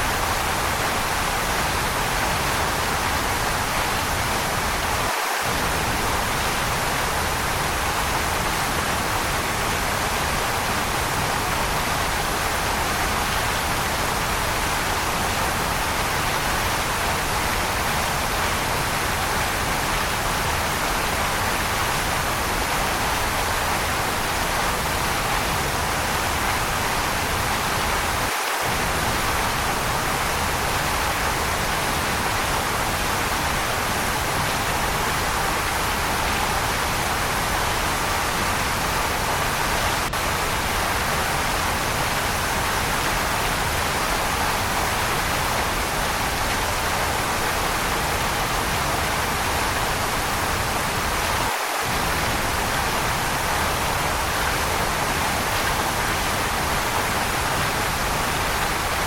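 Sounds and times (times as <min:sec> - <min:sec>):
waterfall water rushing: 0:00.0 - 0:59.0.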